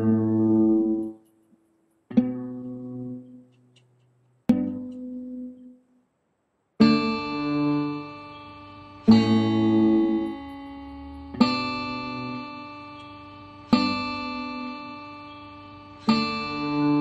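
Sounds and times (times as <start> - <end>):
guitars strumming slow chords: 0.0 - 1.3, 2.1 - 3.9, 4.5 - 5.9, 6.8 - 17.0.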